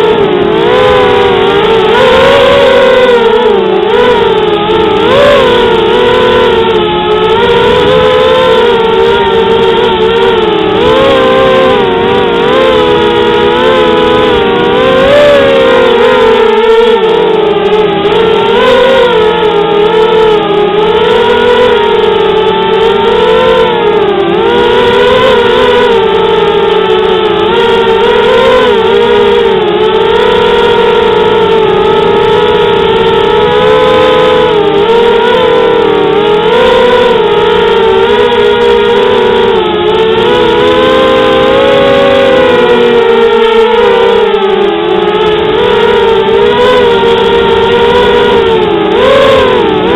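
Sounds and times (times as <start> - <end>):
drone motors and propellers whining: 0.0 - 49.9.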